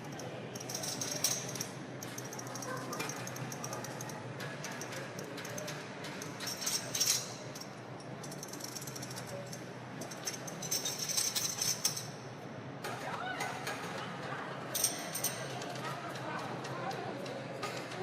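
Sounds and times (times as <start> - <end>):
hum of machines and crowd: 0.0 - 18.0.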